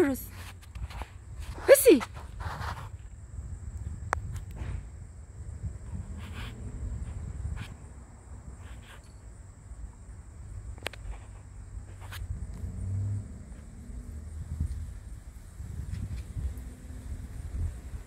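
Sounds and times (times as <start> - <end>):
faint high insect-like hum: 0.0 - 18.0
low wind rumble: 0.0 - 18.0.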